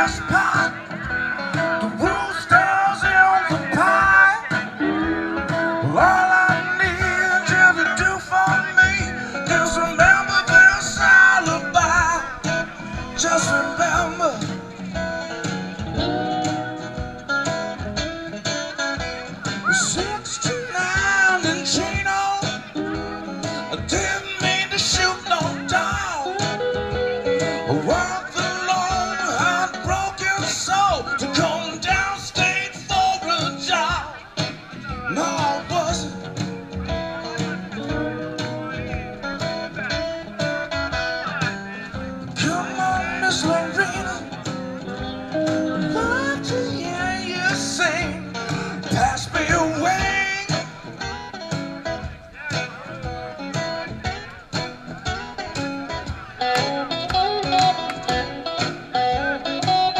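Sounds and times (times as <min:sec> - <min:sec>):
man singing: 0:00.0 - 0:17.8, 0:19.0 - 0:59.9
acoustic guitars playing: 0:00.0 - 0:59.9.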